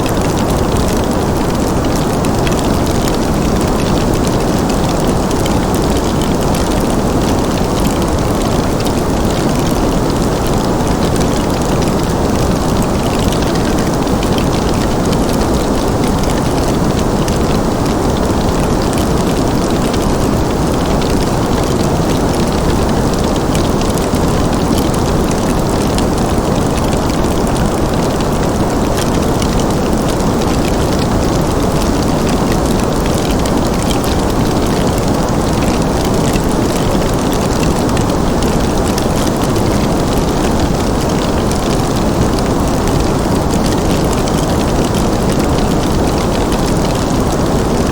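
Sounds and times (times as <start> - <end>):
wood fire crackling: 0.1 - 47.9.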